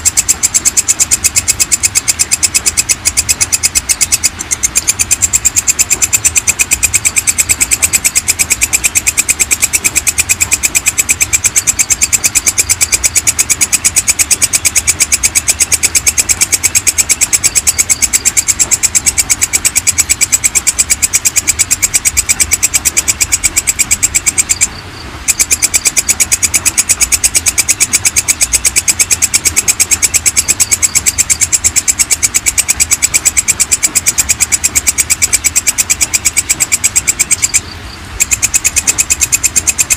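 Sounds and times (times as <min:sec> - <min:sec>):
insect high-pitched chirps: 0:00.0 - 0:39.9.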